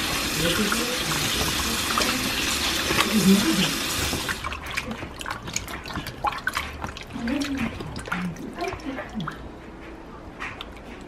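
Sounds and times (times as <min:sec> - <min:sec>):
faucet running into tub: 0:00.0 - 0:09.4
water splashes and drips: 0:00.0 - 0:09.5.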